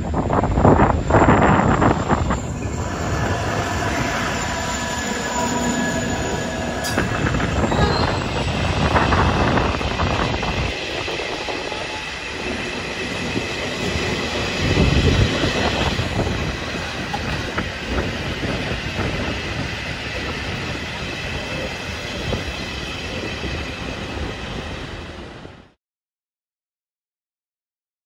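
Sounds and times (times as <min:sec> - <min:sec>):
freight train wheels rumbling: 0:00.0 - 0:25.8.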